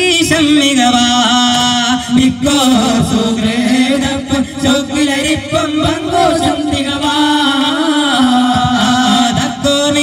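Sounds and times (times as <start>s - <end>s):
man singing devotional song: 0.0s - 10.0s.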